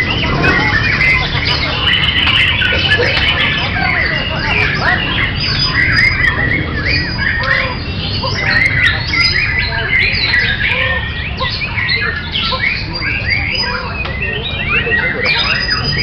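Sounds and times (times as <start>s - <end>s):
birds singing whistles: 0.0s - 16.0s.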